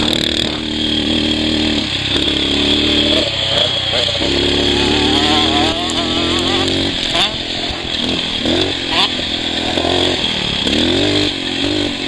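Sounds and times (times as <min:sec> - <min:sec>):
motorcycle engine revving hard: 0:00.0 - 0:12.0.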